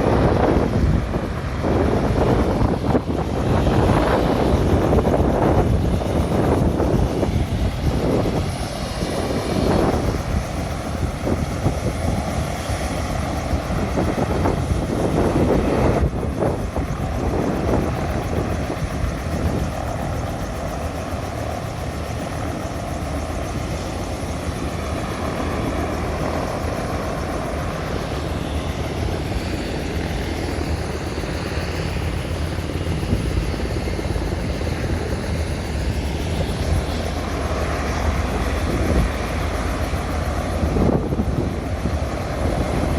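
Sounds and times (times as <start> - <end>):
helicopter rotor and turbine: 0.0 - 42.9.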